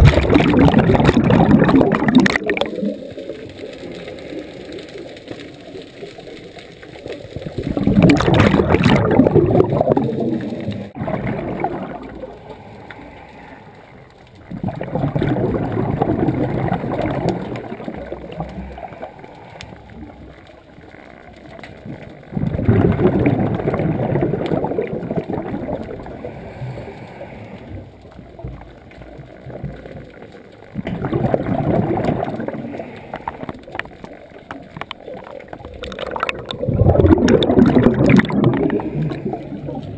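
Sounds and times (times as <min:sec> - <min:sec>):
underwater exhaled bubbles gurgling: 0:00.0 - 0:39.9.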